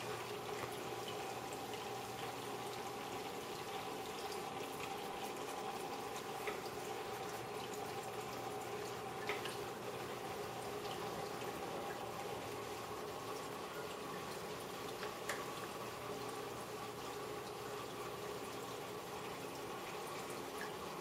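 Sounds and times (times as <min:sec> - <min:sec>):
faint pump hum: 0:00.0 - 0:21.0
water bubbling and trickling: 0:00.0 - 0:21.0.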